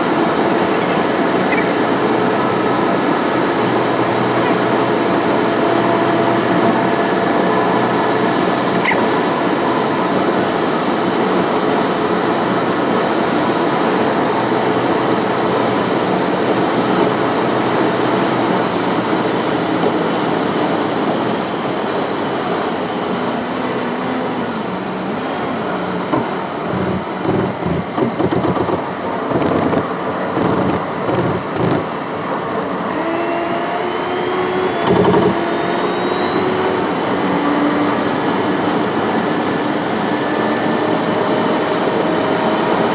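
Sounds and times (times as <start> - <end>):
thin whine rising in pitch: 0.0 - 28.4, 32.9 - 42.9
car tyre and engine noise: 0.0 - 42.9.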